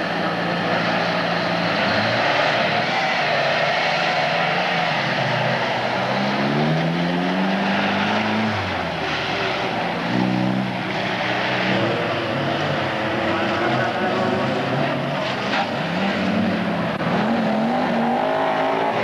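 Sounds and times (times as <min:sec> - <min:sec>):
car engine revving hard: 0:00.0 - 0:19.0.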